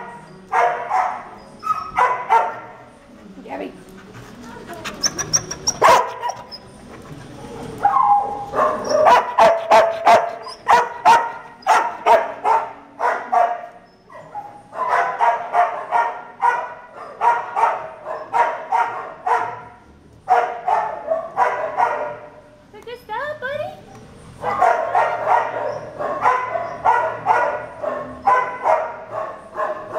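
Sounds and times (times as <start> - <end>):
dogs barking: 0.0 - 22.4, 24.4 - 29.9.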